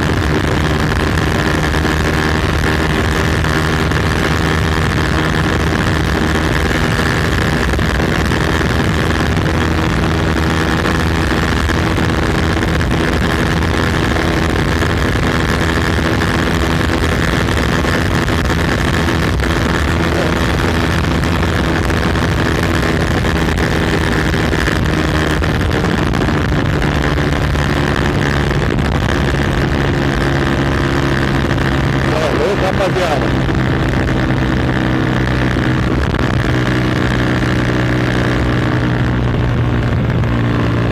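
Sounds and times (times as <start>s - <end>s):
motorcycle engine with loud exhaust: 0.0s - 40.9s.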